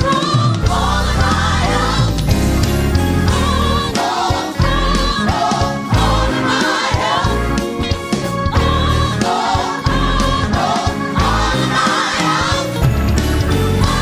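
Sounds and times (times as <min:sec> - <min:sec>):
band with bass and drums: 0:00.0 - 0:14.0
gospel choir singing: 0:00.0 - 0:14.0.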